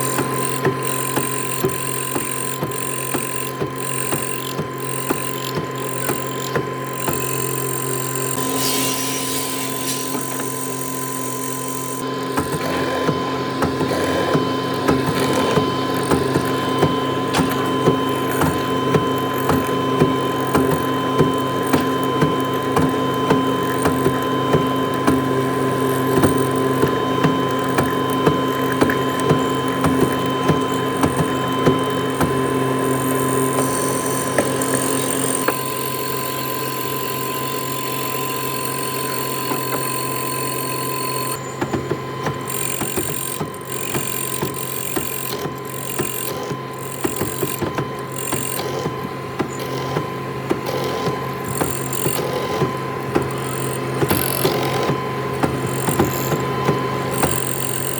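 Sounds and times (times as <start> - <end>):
woodworking machinery whining: 0.0 - 57.9.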